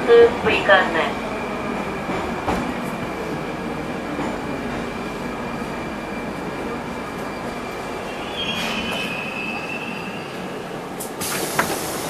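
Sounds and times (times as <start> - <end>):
metro train wheels rumbling: 0.0 - 12.0.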